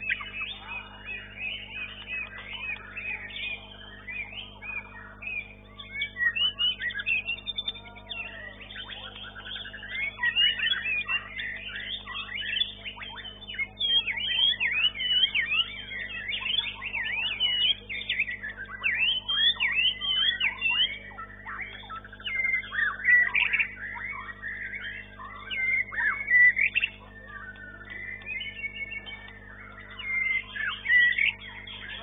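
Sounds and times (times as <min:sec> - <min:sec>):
songbird whistling song: 0:00.0 - 0:32.0
steady low hum: 0:00.0 - 0:32.0.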